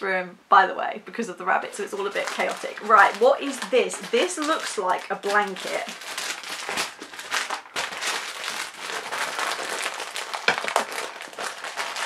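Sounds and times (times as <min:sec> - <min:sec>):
plastic bag crinkling: 0:01.6 - 0:12.0.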